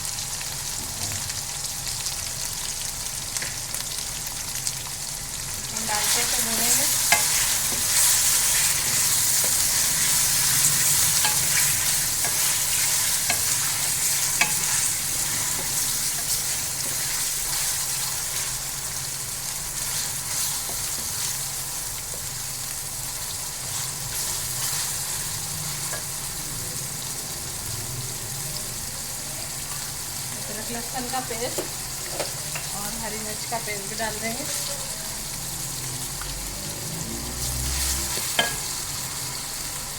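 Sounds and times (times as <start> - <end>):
chicken sizzling in hot oil: 0.0 - 39.9.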